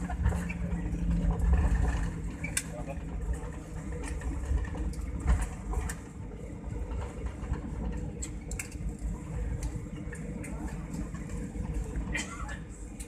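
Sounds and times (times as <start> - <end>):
engine and wheel rumble: 0.0 - 13.0.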